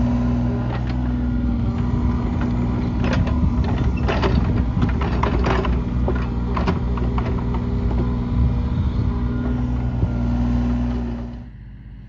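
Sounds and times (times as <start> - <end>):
excavator diesel engine running: 0.0 - 12.0
excavator bucket clanks and rattles: 0.2 - 11.1.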